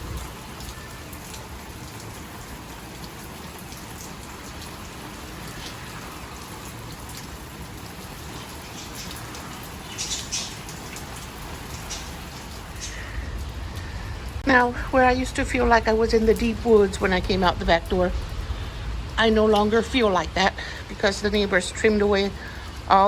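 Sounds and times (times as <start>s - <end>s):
drops ticking close by: 0.0s - 23.0s
steady rain falling: 0.0s - 23.0s.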